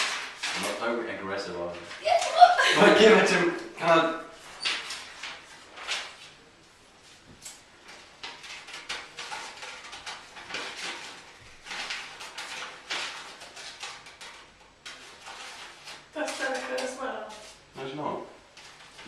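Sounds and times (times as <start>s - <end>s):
paper rustling and crackling: 0.0s - 3.1s, 4.4s - 17.7s, 18.4s - 19.0s.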